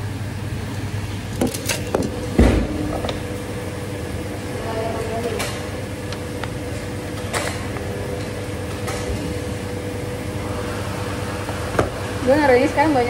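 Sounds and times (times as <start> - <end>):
machines humming: 0.0 - 13.0.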